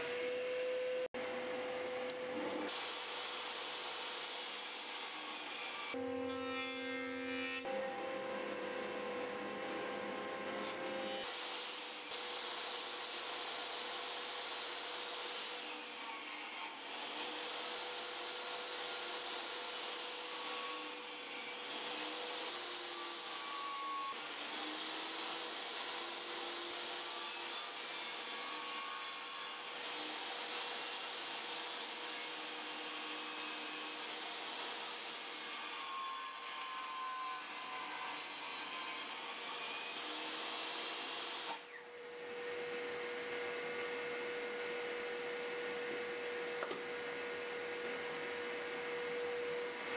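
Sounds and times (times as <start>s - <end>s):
table saw cutting wood: 0.0s - 49.9s.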